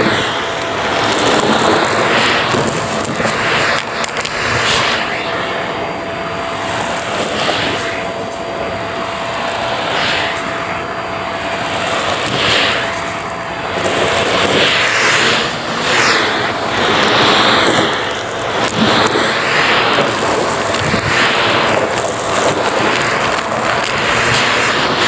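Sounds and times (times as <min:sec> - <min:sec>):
vacuum cleaner sucking up coins: 0:00.0 - 0:25.0.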